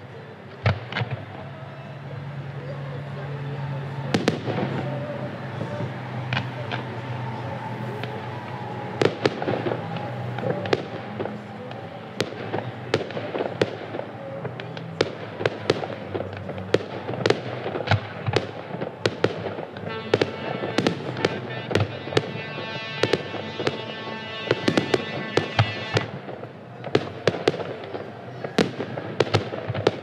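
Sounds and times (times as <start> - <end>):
fireworks bangs: 0.1 - 30.0
music playing: 2.3 - 27.4.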